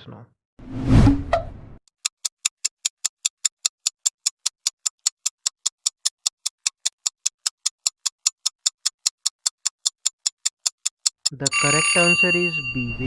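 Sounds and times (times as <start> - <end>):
fast clock ticking: 1.9 - 12.4.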